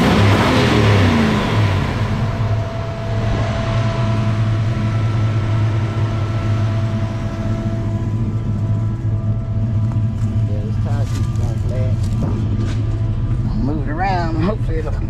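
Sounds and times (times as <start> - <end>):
engine idling: 0.0 - 15.0
thin steady whine: 0.7 - 15.0.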